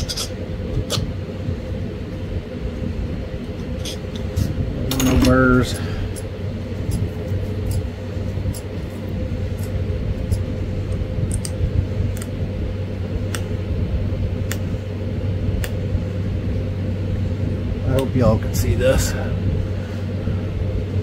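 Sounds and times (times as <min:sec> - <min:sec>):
low fan hum: 0:00.0 - 0:21.0.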